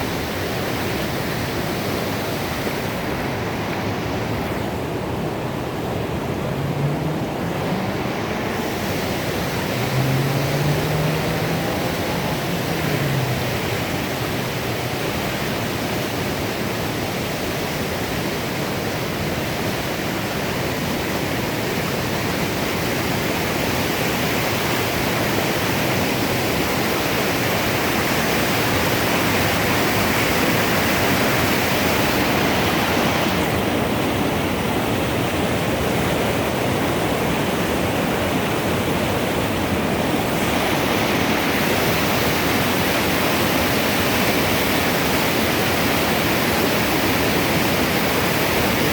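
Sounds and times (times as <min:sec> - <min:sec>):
flowing river water: 0:00.0 - 0:48.9.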